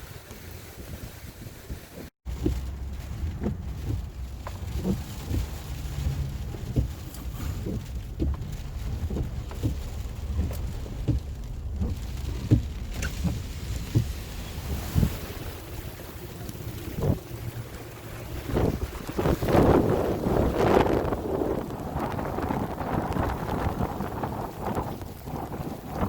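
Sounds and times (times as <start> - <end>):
rain hiss: 0.0 - 26.0
wind buffeting microphone: 0.0 - 26.0.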